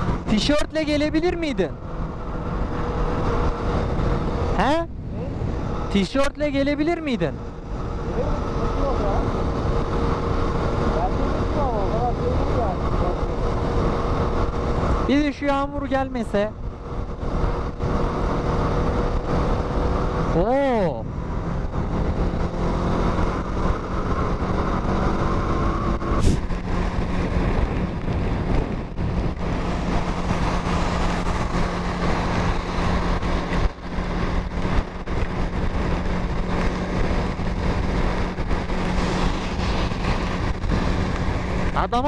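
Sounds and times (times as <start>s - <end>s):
wind noise over microphone: 0.0s - 20.4s, 21.0s - 42.0s
motorcycle engine cruising: 0.0s - 42.0s.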